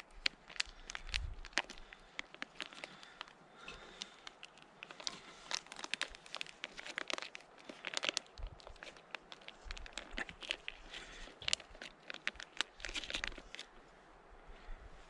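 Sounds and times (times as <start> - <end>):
sauce packet crinkling: 0.0 - 13.8.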